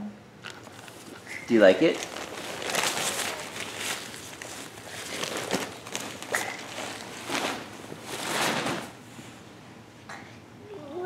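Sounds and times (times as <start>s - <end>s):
fabric hamper rustling: 0.5s - 9.4s.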